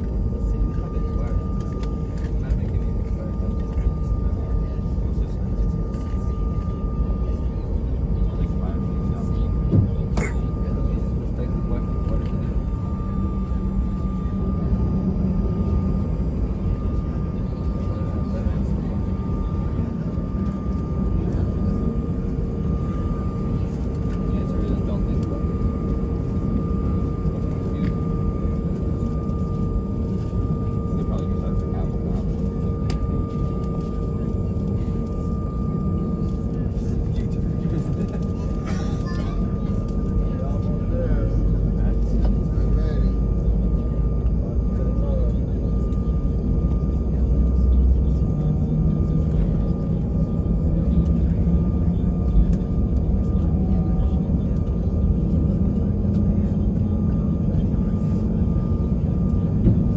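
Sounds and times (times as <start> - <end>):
jet engines in aircraft cabin: 0.0 - 59.9.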